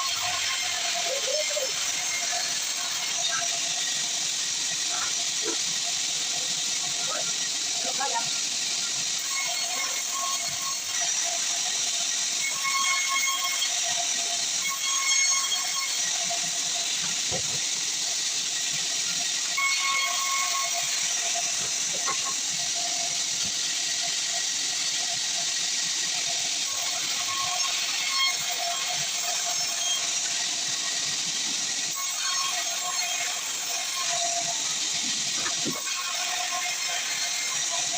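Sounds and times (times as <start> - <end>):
saw cutting wood: 0.0 - 37.9.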